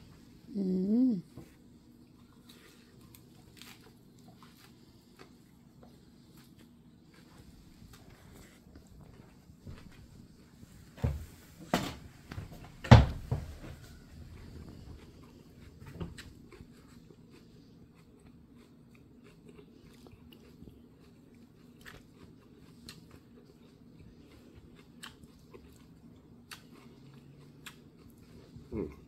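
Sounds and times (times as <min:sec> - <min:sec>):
low room hum: 0:00.0 - 0:29.0
chewing and crunching food: 0:01.4 - 0:10.9, 0:12.2 - 0:29.0.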